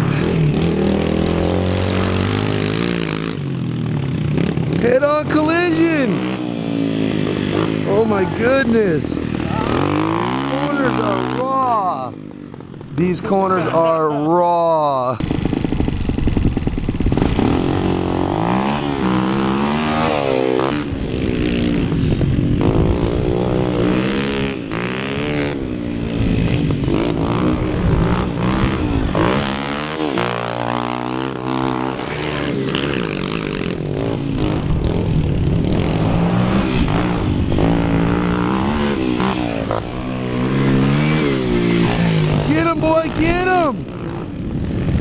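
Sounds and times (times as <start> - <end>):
pit bike engines revving: 0.0 - 45.0.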